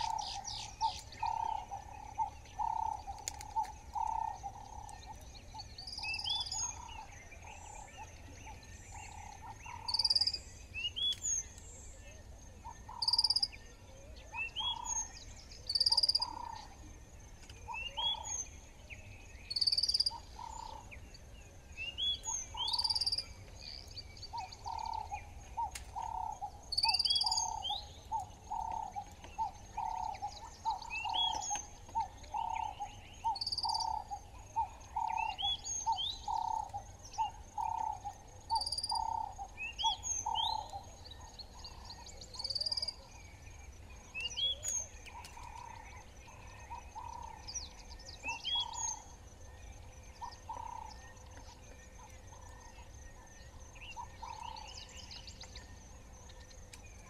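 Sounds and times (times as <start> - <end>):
bird calling: 0.0 - 57.0
faint insect whine: 0.0 - 57.0
frogs croaking: 0.0 - 57.0.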